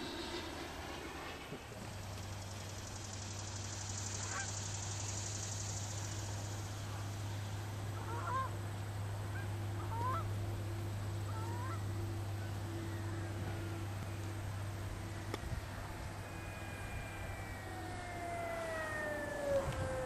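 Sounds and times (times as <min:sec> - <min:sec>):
electric fan whining: 0:00.0 - 0:20.0
steady low hum: 0:00.0 - 0:20.0.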